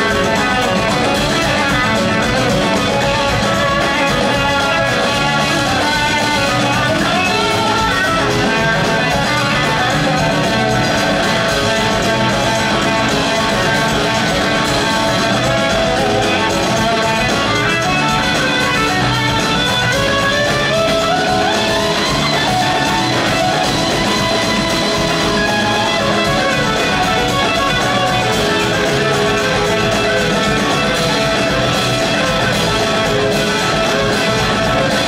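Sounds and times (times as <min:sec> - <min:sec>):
bass guitar: 0:00.0 - 0:35.0
drums: 0:00.0 - 0:35.0
electric guitars: 0:00.0 - 0:35.0
lead guitar line gliding up: 0:00.0 - 0:35.0.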